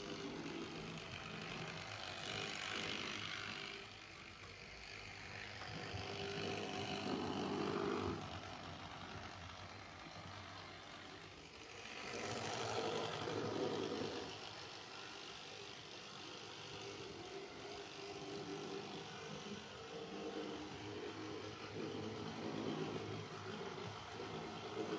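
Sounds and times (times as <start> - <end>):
small motor whirring: 0.0 - 24.9.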